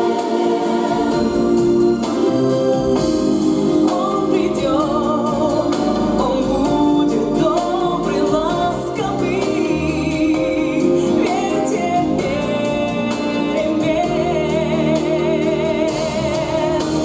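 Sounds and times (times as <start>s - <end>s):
children singing: 0.0s - 17.0s
instrumental accompaniment: 0.0s - 17.0s.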